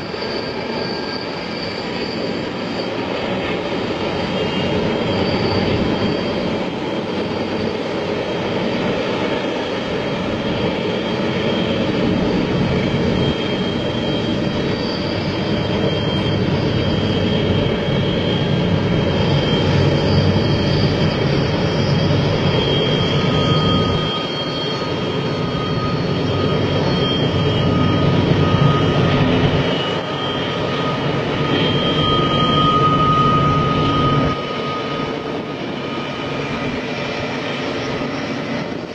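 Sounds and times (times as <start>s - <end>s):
freight train rumbling: 0.0s - 34.4s.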